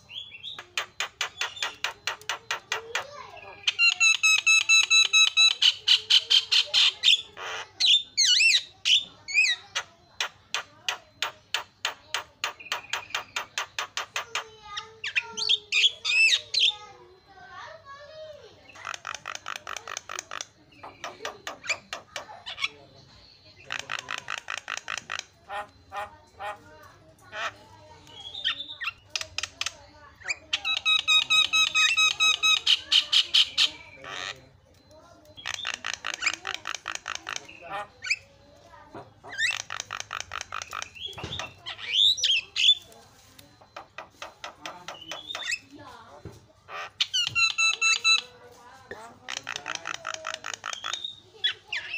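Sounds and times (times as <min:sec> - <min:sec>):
harsh bird chattering: 0:00.0 - 0:51.9.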